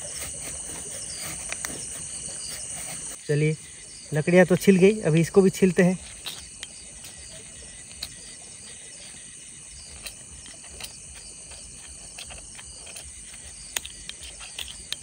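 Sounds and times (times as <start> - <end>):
fire-starter rod scraping: 0.0 - 3.6, 4.2 - 15.0
crickets chirping: 0.0 - 15.0.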